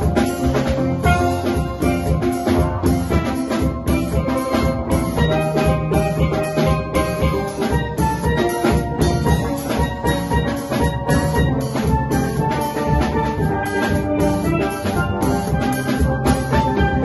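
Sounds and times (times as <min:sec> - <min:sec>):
drum kit with cymbals: 0:00.0 - 0:17.0
steelpan melody: 0:00.0 - 0:17.0.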